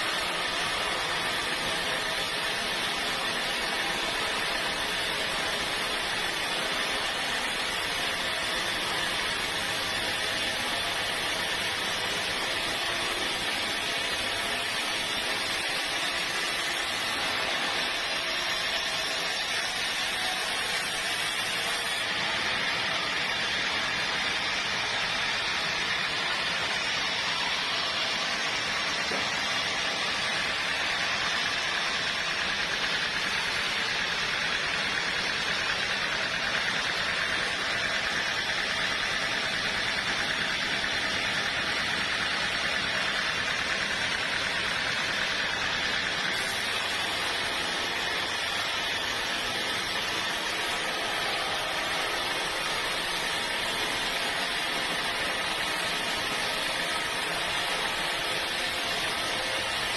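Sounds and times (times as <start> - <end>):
sawmill machinery hiss: 0.0 - 59.9.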